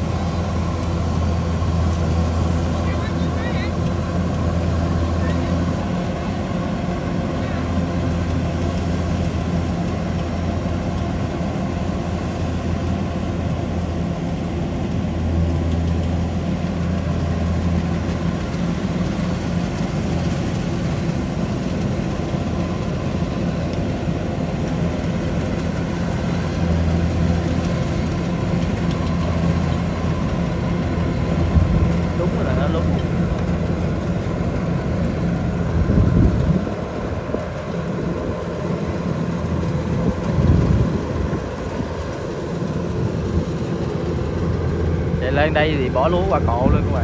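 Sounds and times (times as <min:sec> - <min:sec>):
combine harvester engine humming: 0:00.0 - 0:47.0
threshing machinery clatter: 0:00.0 - 0:47.0.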